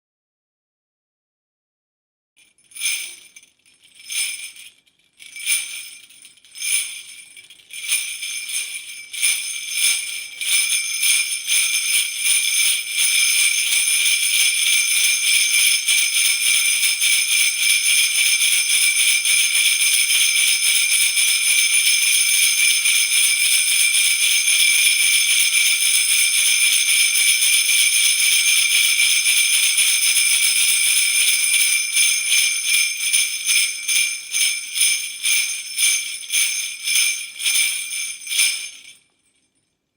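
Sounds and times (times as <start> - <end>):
sleigh bells jingling: 2.4 - 39.4.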